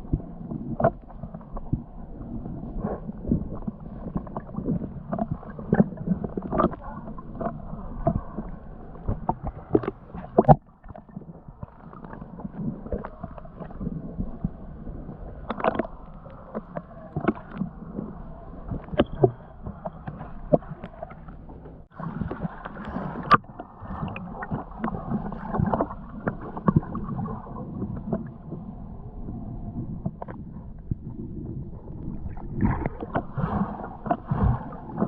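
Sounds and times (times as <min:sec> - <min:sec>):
muffled water sloshing and splashing: 0:00.0 - 0:35.0.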